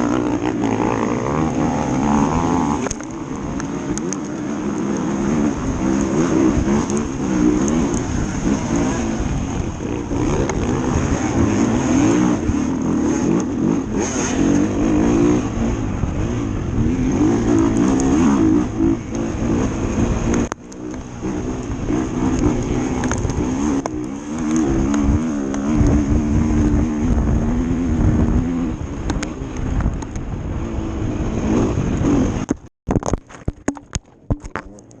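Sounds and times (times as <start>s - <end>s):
dirt bike engine revving: 0.0s - 29.5s, 30.4s - 32.5s
wind noise: 0.0s - 35.0s.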